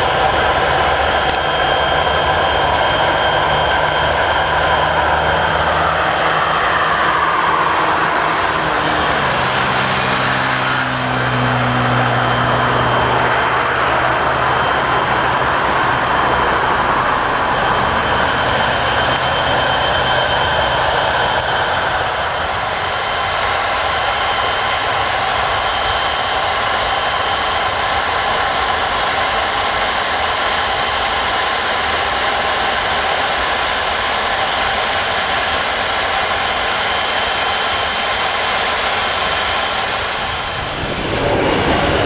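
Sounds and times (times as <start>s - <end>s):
jet engines at takeoff power: 0.0s - 42.0s
whining tones sliding downward: 0.0s - 42.0s.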